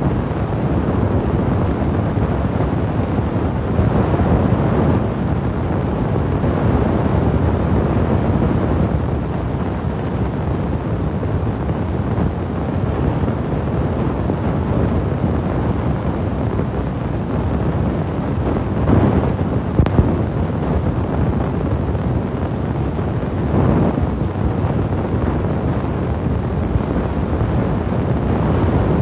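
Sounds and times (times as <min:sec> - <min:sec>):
loud low rumbling noise: 0:00.0 - 0:29.0.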